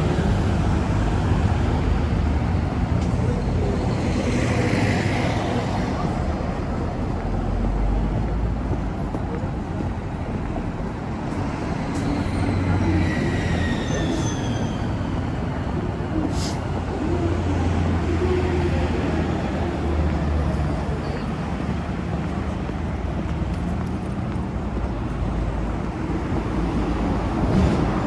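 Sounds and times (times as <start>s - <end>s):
rumble of passing vehicles: 0.0s - 28.0s.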